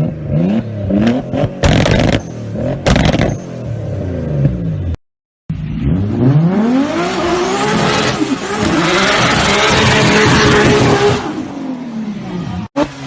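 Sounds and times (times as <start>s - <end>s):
car engine revving: 0.0s - 5.0s, 5.6s - 13.0s.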